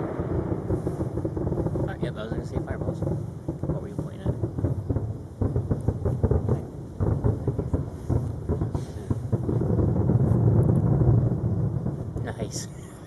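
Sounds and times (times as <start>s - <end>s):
distant fireworks booming: 0.0s - 13.0s.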